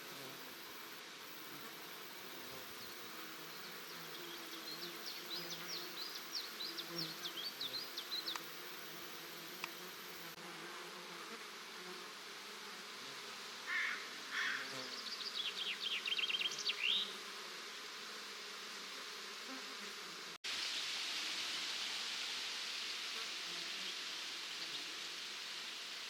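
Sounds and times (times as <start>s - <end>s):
outdoor hiss: 0.0s - 10.5s, 13.2s - 26.0s
insects buzzing: 0.0s - 26.0s.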